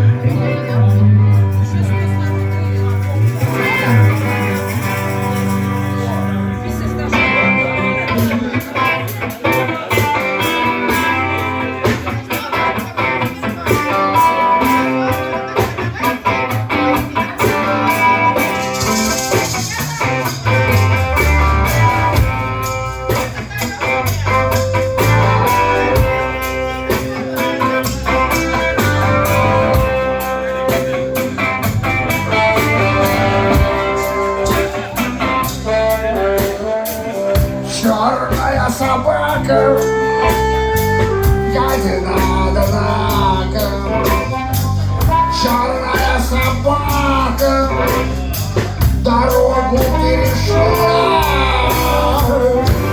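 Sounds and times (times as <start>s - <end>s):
blues-rock band instrumental: 0.0s - 52.9s.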